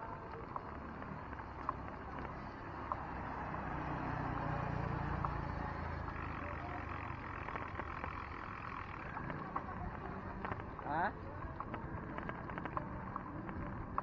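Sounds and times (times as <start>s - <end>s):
road noise while cycling: 0.0s - 14.0s.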